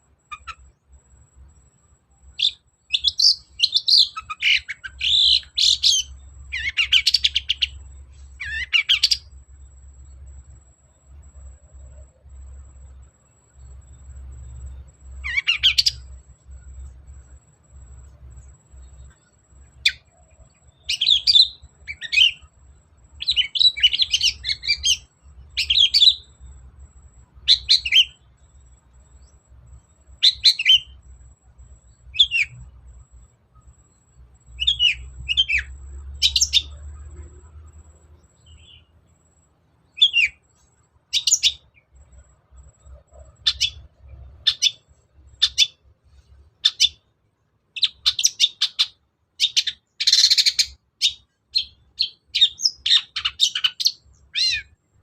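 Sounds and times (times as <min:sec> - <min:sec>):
bird chattering song: 0:00.0 - 0:00.9, 0:02.3 - 0:10.2, 0:11.3 - 0:47.0, 0:47.8 - 0:54.8.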